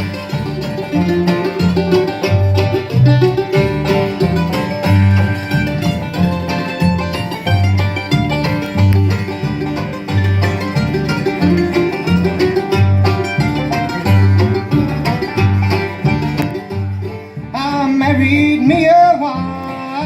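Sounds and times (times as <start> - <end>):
banjo picking: 0.0 - 20.0
bluegrass band playing: 0.0 - 20.0.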